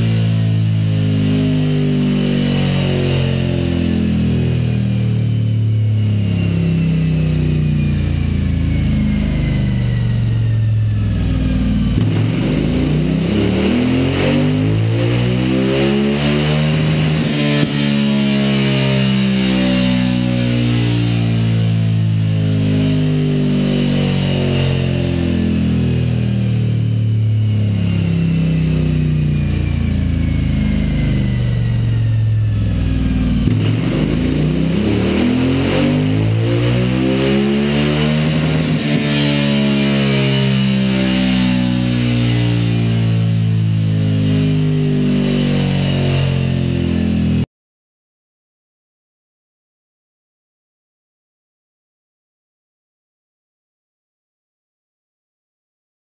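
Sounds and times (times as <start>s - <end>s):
motorcycle engine revving: 0.0s - 47.5s.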